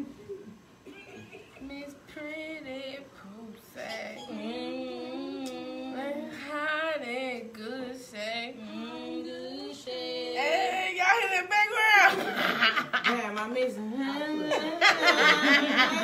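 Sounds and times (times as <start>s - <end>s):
woman singing: 1.5s - 12.1s, 13.1s - 16.0s.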